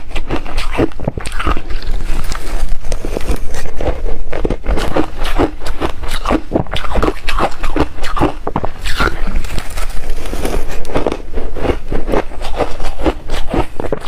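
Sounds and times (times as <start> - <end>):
chewing ice crunches: 0.0 - 14.0.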